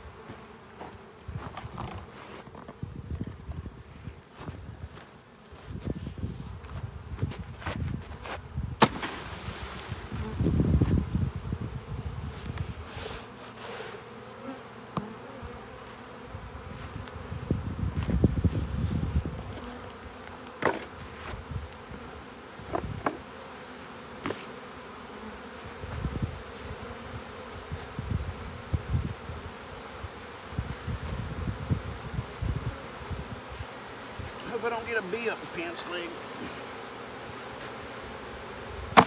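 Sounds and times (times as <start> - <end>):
bee swarm buzzing: 0.0 - 3.2, 8.0 - 39.0.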